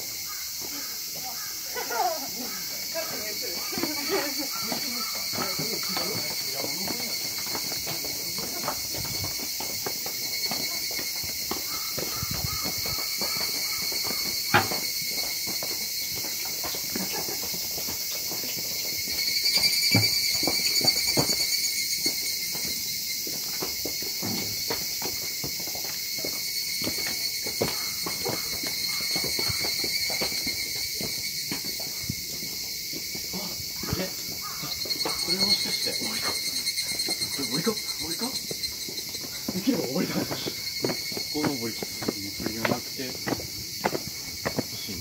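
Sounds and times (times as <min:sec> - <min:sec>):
insects calling: 0:00.0 - 0:45.0
footsteps: 0:02.4 - 0:45.0.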